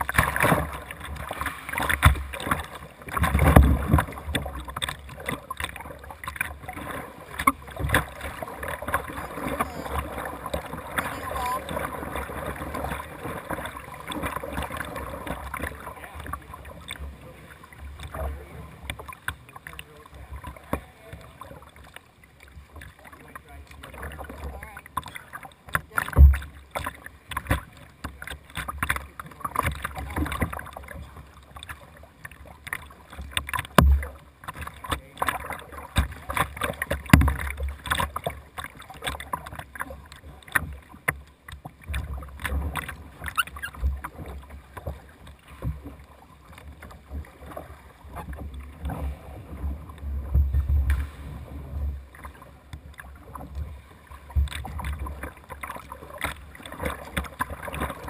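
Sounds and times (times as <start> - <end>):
paddle splashing in water: 0.0 - 58.0
water lapping at kayak bow: 0.0 - 58.0.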